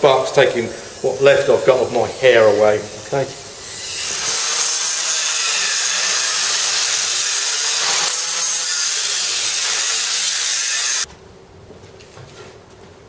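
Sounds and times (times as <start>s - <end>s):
angle grinder cutting steel: 0.1s - 11.1s.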